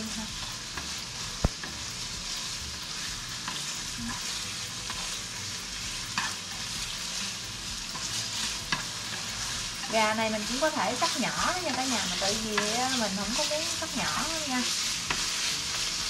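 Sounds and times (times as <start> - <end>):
chicken sizzling in oil: 0.0 - 16.0
spatula clicking against pan: 0.3 - 16.0.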